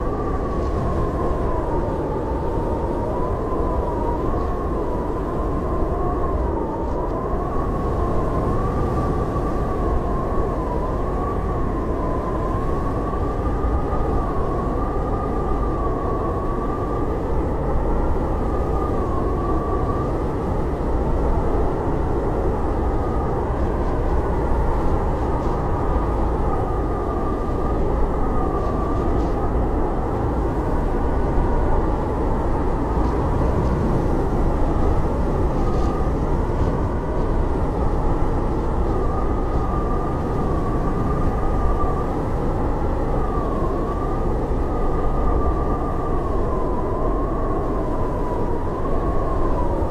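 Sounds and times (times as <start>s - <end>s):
howling blizzard wind: 0.0s - 49.9s.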